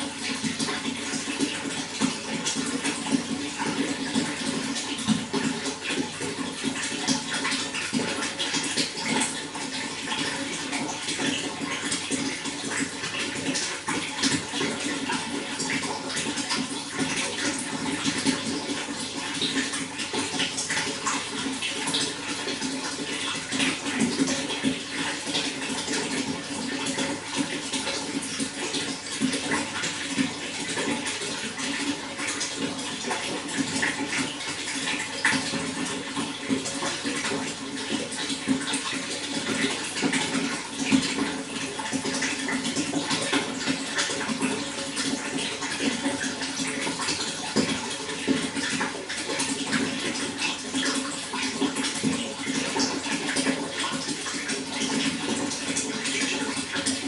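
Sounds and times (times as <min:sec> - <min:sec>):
running water splashing: 0:00.0 - 0:57.0.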